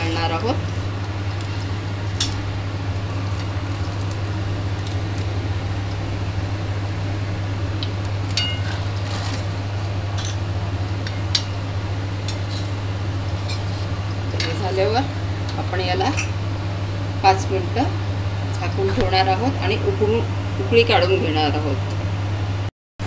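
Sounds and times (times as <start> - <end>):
low hum: 0.0 - 22.7.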